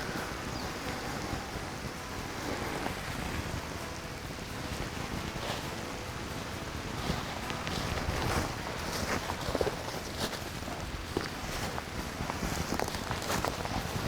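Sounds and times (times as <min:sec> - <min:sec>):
rain-like hiss: 0:00.0 - 0:14.0
wind rumbling on microphone: 0:00.0 - 0:14.0.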